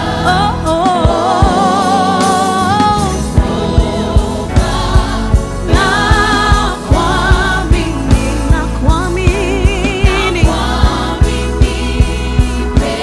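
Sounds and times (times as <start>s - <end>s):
steady drum beat: 0.0s - 13.0s
voices singing long notes: 0.0s - 13.0s.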